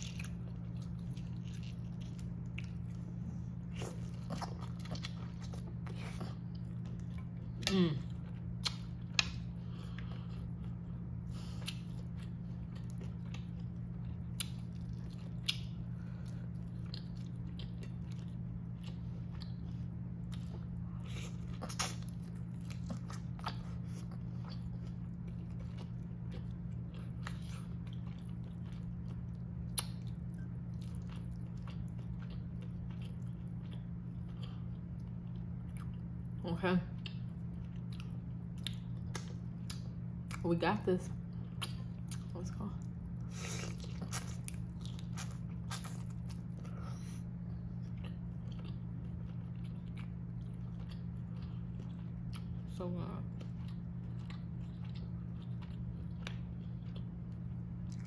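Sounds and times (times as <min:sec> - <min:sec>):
close chewing and biting: 0:00.0 - 0:36.4, 0:37.0 - 0:40.4, 0:41.2 - 0:58.0
steady low hum: 0:00.0 - 0:58.0.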